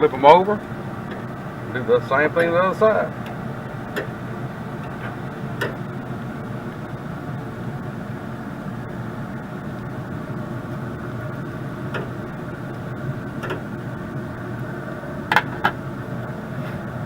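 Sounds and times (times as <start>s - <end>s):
pellet grill humming: 0.0s - 17.0s.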